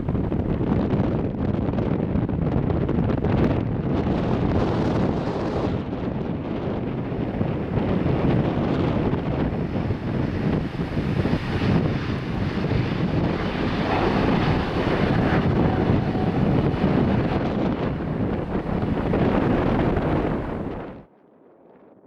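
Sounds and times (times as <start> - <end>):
wind buffeting microphone: 0.0 - 21.1
jet airliner engines: 0.0 - 22.0.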